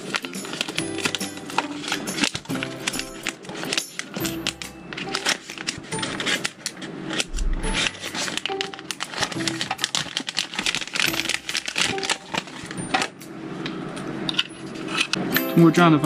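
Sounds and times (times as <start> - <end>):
light background music: 0.0 - 13.5, 14.3 - 16.0.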